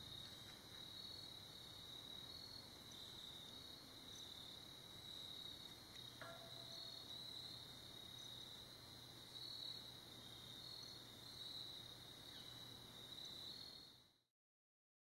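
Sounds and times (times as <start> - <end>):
insect chorus trilling: 0.0 - 14.2.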